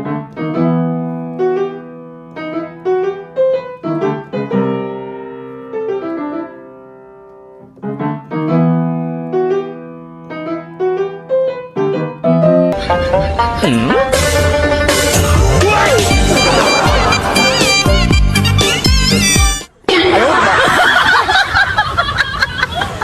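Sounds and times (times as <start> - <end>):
piano music: 0.0 - 19.7.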